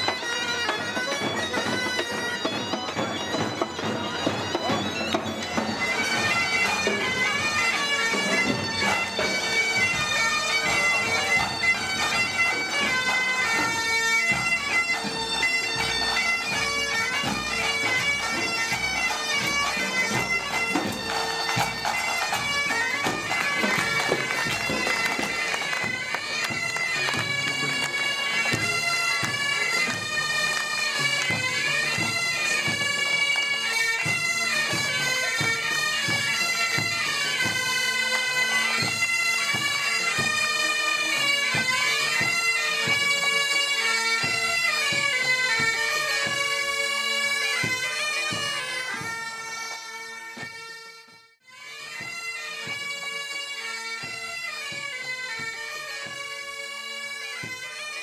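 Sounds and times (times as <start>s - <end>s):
bagpipes playing a tune: 0.0s - 58.0s.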